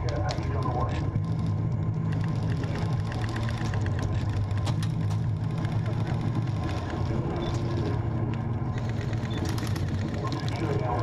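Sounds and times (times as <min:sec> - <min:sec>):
low mechanical motor hum: 0:00.0 - 0:11.0.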